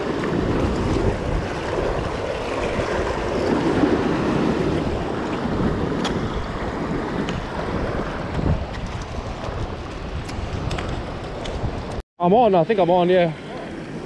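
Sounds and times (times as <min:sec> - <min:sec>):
ocean swell washing over rocks: 0:00.0 - 0:11.9
wind buffeting microphone: 0:00.0 - 0:12.0.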